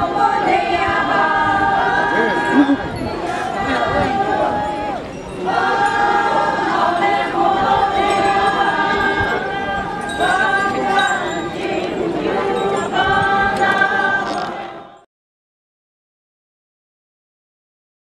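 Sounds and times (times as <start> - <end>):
group of voices chanting: 0.0 - 15.1.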